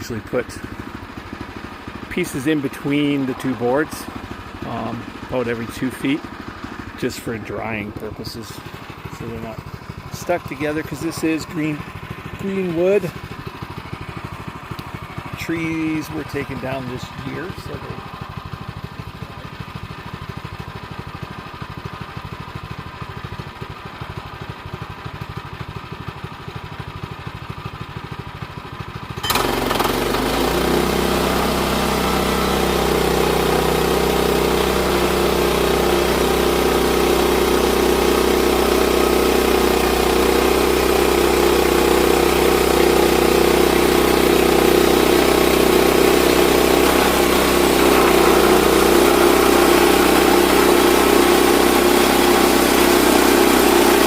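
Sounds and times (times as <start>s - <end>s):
sawmill engine running: 0.0s - 24.4s, 29.2s - 54.0s.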